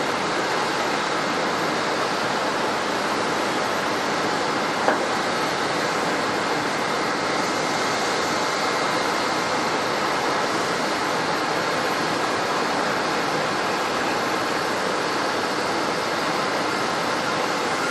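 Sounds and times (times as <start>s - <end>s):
jet engines noise: 0.0s - 17.9s.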